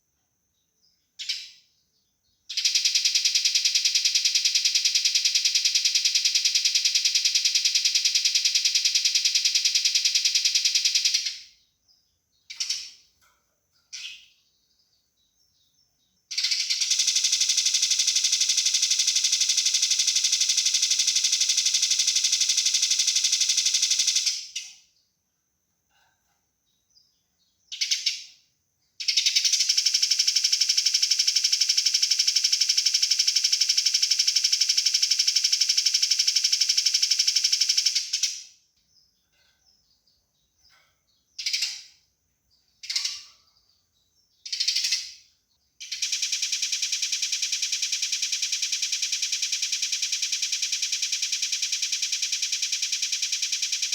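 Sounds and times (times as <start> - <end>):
sparrow chirps: 0.6 - 25.1, 26.7 - 29.7, 37.5 - 53.9.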